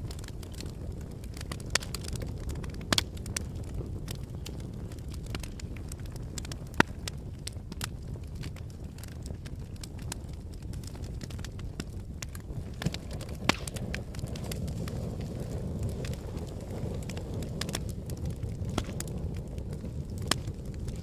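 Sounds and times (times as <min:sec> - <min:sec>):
sharp fire pops: 0:00.0 - 0:21.0
wood fire crackling: 0:00.0 - 0:21.0.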